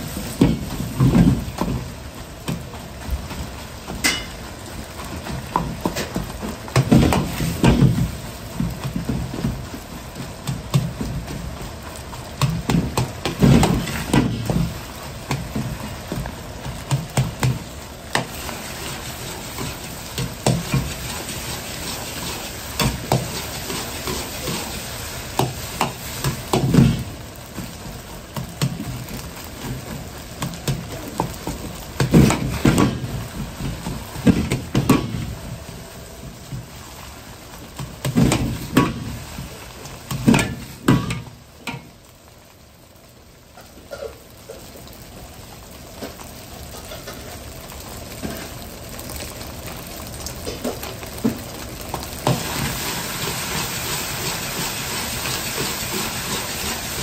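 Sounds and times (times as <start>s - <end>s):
food sizzling: 0.0s - 57.0s.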